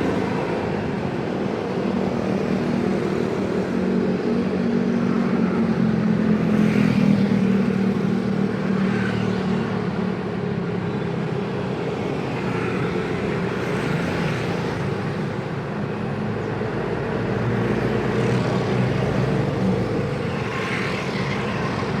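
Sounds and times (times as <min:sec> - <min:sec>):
road traffic drone: 0:00.0 - 0:22.0.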